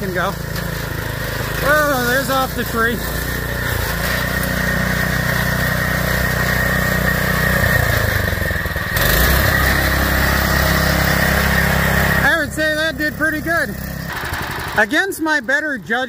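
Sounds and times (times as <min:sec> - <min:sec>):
small engine running: 0:00.0 - 0:15.6.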